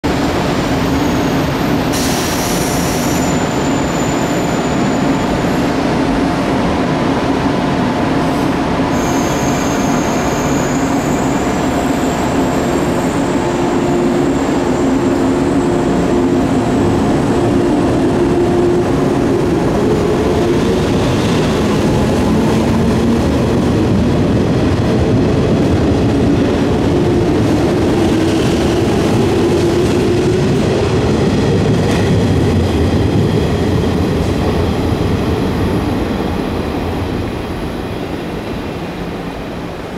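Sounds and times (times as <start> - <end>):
electric train machinery hum: 0.1 - 39.9.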